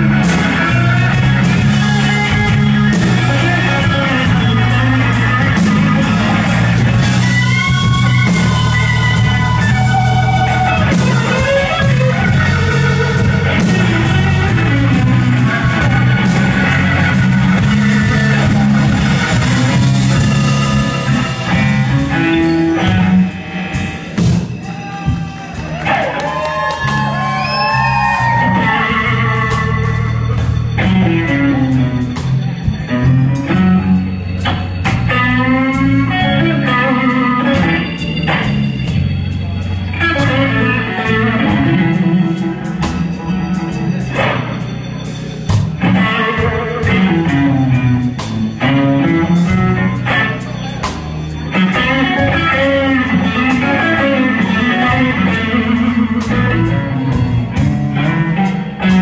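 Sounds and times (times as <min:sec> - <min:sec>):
blues band playing: 0:00.0 - 0:59.0
electric guitar lead with bent notes: 0:00.0 - 0:59.0.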